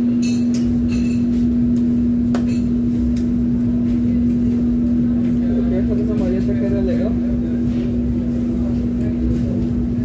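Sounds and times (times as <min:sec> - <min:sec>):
kitchen machinery hum: 0:00.0 - 0:10.0.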